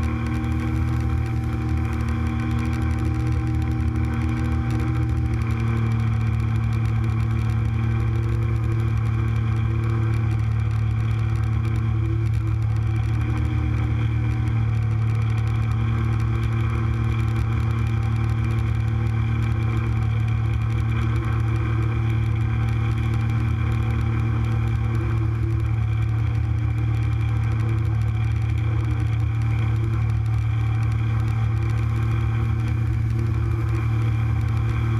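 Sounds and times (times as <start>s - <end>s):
speedboat engine running: 0.0s - 34.9s.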